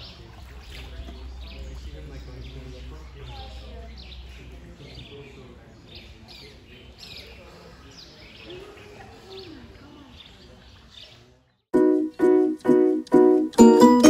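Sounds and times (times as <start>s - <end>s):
distant voices: 0.0s - 11.6s
small birds chirping: 0.0s - 12.6s.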